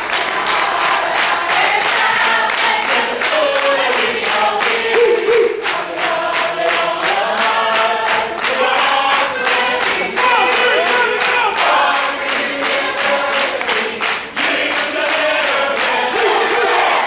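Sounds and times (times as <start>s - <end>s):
group of voices singing: 0.0s - 17.0s
rhythmic hand clapping: 0.0s - 17.0s.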